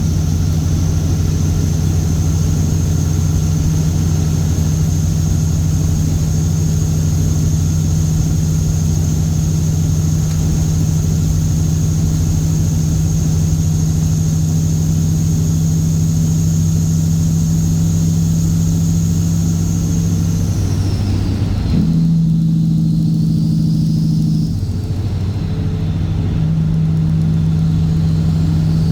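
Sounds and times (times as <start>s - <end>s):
diesel truck engine running: 0.0s - 28.9s
high whine dropping in pitch: 0.0s - 28.9s.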